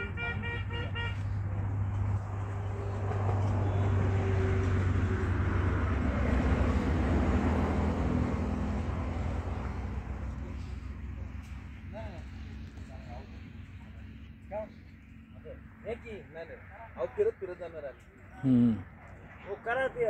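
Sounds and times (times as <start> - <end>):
tyre and road noise: 0.0 - 20.0
vehicle engine rumble: 0.0 - 20.0.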